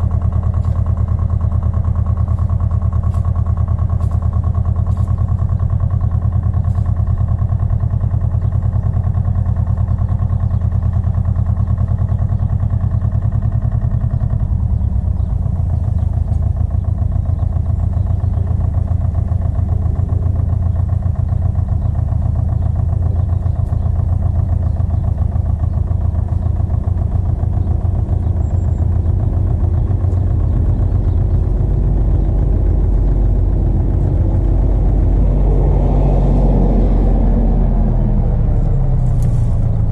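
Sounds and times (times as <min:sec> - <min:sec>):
two-wheel tractor engine running: 0:00.0 - 0:39.9.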